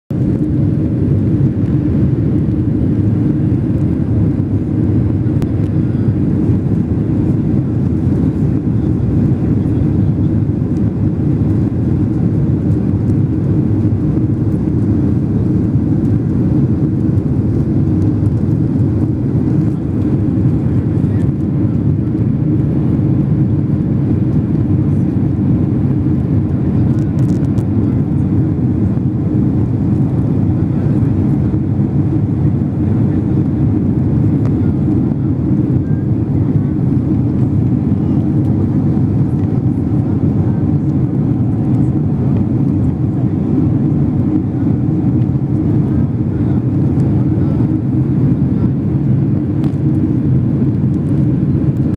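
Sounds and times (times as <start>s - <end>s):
air rushing past plane: 0.1s - 51.9s
jet engines rumbling: 0.1s - 51.9s.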